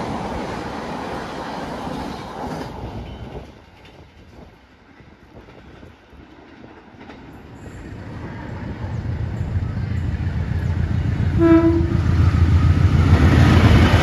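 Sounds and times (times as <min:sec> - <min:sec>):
passenger train passing at speed: 0:00.0 - 0:14.0.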